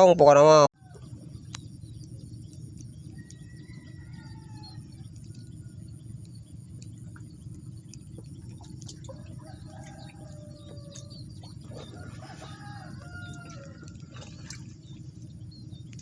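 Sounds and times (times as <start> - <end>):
low background rumble: 0.2 - 16.0.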